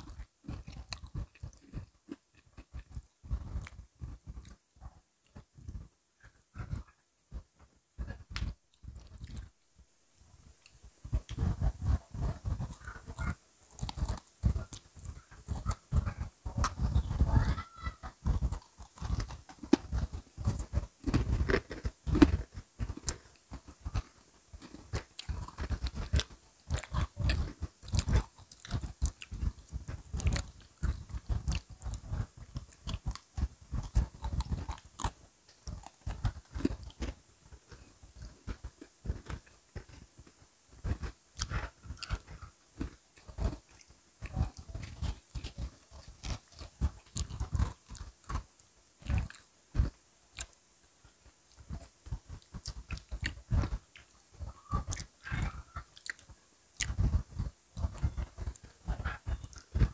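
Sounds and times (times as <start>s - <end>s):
crunching and chewing cookies: 0.0s - 9.7s, 10.4s - 59.9s.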